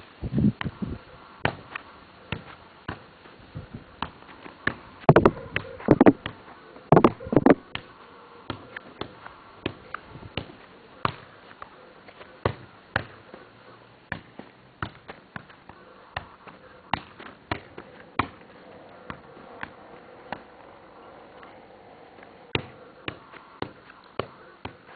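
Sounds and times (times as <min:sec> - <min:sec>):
ball thumps: 0:01.4 - 0:03.1, 0:03.7 - 0:07.9, 0:08.5 - 0:13.4, 0:14.1 - 0:24.9
football touches: 0:01.4 - 0:24.9.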